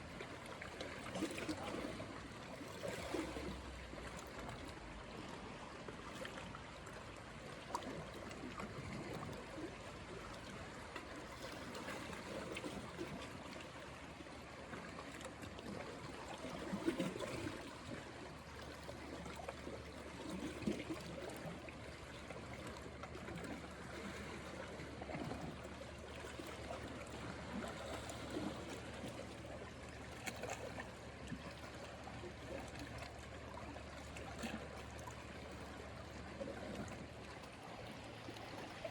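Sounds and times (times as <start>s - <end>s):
water lapping at shoreline: 0.0s - 38.9s
water splashes: 0.0s - 38.9s.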